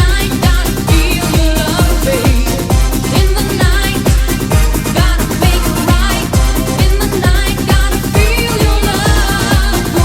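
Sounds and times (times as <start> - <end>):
eurodance music: 0.0 - 10.0.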